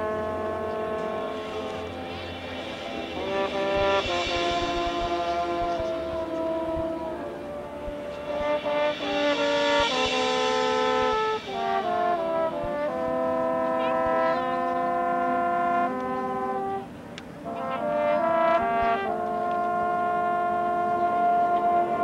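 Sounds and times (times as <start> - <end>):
brass band playing chords: 0.0 - 22.0.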